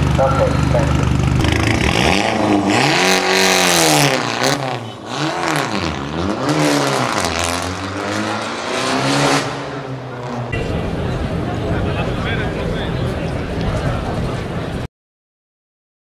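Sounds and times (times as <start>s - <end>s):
car engine revving: 0.0s - 14.8s
loud exhaust: 0.0s - 14.8s.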